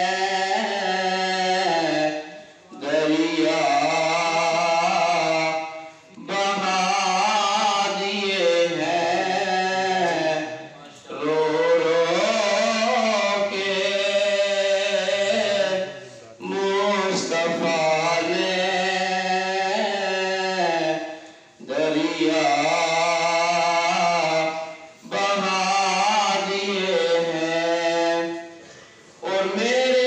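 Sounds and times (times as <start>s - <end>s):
man singing unaccompanied: 0.0s - 28.6s, 29.2s - 30.0s.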